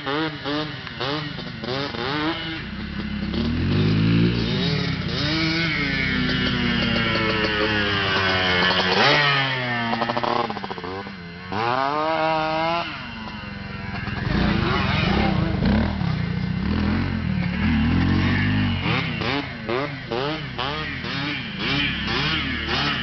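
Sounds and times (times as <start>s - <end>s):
small motorcycle engine revving: 0.0s - 23.0s.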